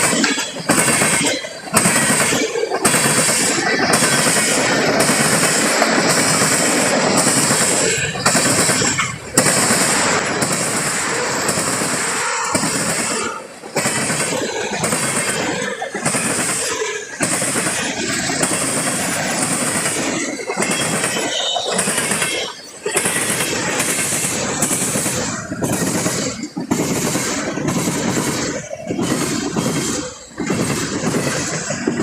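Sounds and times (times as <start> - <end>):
freight train rumbling and rattling: 0.0 - 32.0.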